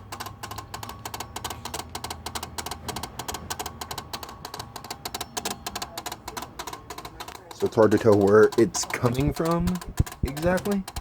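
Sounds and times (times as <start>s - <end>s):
rapid even clicking: 0.0s - 11.0s.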